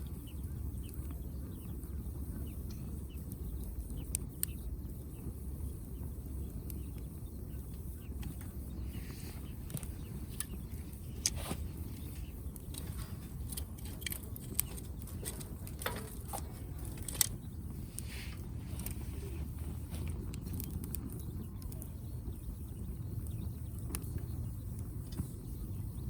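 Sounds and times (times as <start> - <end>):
firewood crackling and popping: 0.0 - 26.0
low steady rumble: 0.0 - 26.0.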